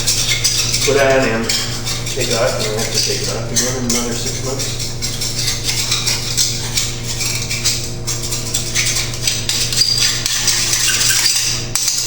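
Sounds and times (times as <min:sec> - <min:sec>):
metal tools clinking and rattling: 0:00.0 - 0:12.0
steady low hum: 0:00.0 - 0:12.0.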